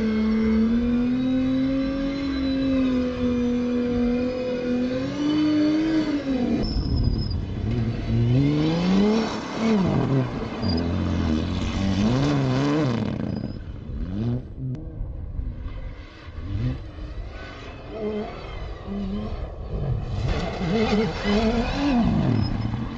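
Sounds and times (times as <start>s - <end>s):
engine revving through gears: 0.0s - 14.8s, 16.3s - 22.9s.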